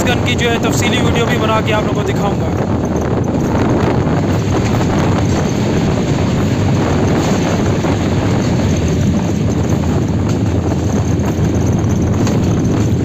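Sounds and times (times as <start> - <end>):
diesel locomotive engine: 0.0 - 13.0
wheels on rails: 0.0 - 13.0.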